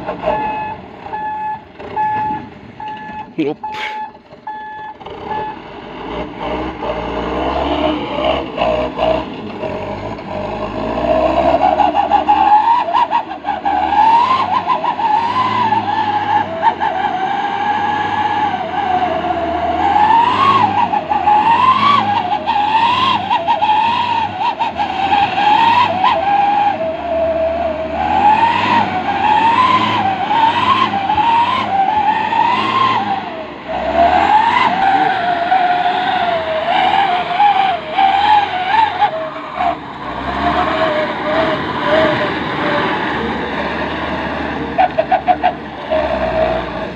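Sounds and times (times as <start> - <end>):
truck diesel engine revving: 0.0 - 46.9.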